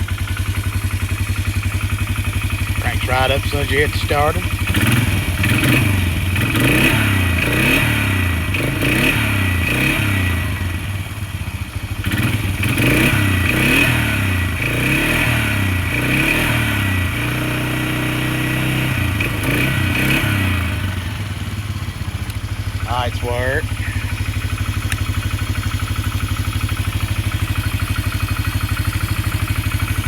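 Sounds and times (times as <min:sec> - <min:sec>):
atv engine revving and idling: 0:00.0 - 0:30.0.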